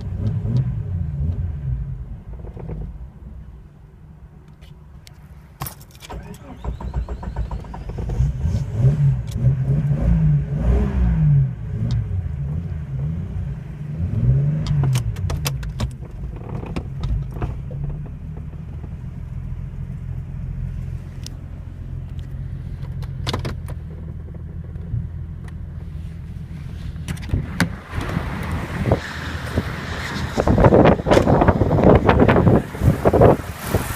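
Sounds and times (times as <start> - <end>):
car engine revving and idling: 0.0 - 4.4, 6.1 - 33.9.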